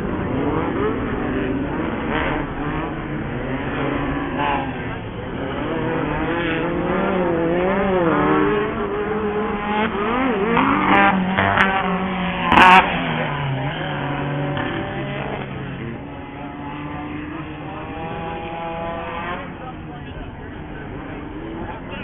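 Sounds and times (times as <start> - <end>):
buggy engines revving: 0.0 - 22.0.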